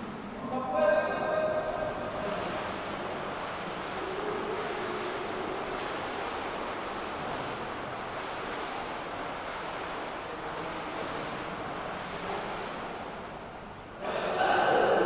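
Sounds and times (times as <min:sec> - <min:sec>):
water splashing from swimming: 0:00.0 - 0:00.5, 0:01.4 - 0:15.0.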